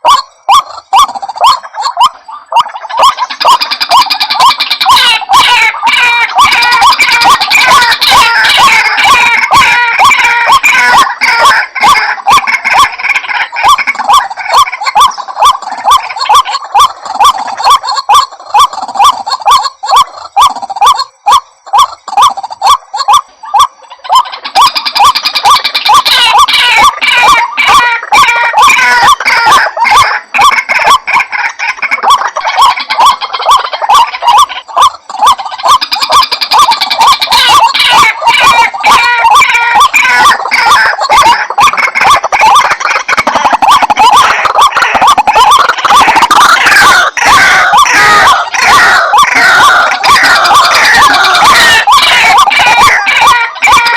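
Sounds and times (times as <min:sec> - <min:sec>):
bird croaking calls: 0:00.0 - 0:53.9.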